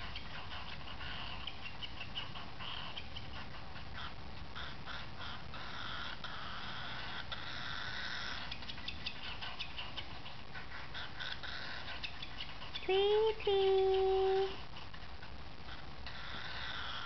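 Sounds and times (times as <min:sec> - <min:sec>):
baby bird rasping begging call: 0:00.0 - 0:14.9, 0:15.7 - 0:17.0.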